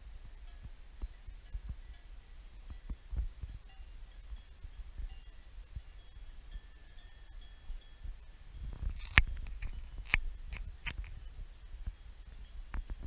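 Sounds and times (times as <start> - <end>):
low thumps and rumble on microphone: 0.0 - 6.6, 7.2 - 13.0.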